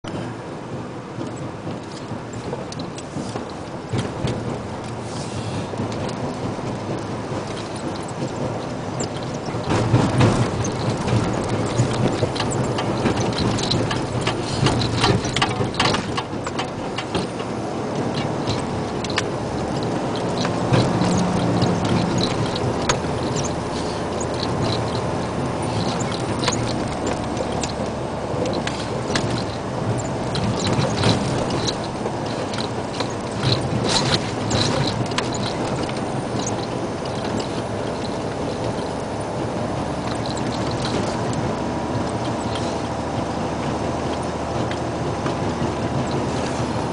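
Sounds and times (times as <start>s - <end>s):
cab rattling: 0.0s - 46.9s
diesel truck engine droning: 0.0s - 46.9s
tyres on gravel: 1.2s - 46.9s.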